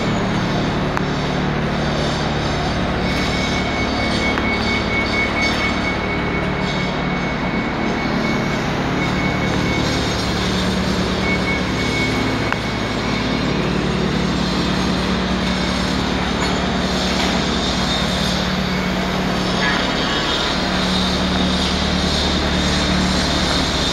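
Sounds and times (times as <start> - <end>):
factory machinery running: 0.0 - 23.9
thin high machine whine: 0.0 - 23.9.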